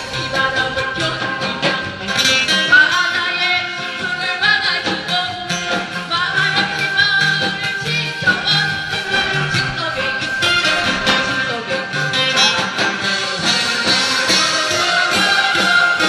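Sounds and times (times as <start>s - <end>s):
amplified backing band: 0.0s - 16.0s
woman singing: 0.0s - 16.0s.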